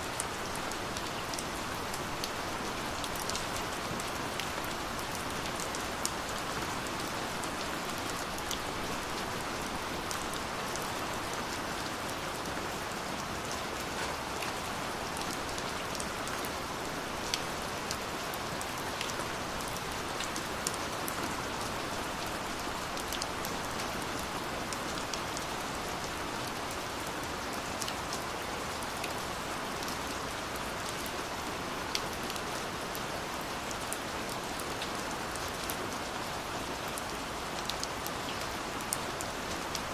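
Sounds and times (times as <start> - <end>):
steady rain falling: 0.0 - 39.9
raindrops ticking on a surface: 0.1 - 39.9.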